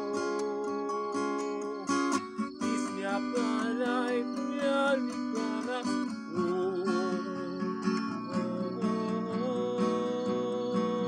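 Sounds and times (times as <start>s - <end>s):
acoustic guitar strummed: 0.0s - 11.0s
man singing wordless melody: 0.0s - 11.0s.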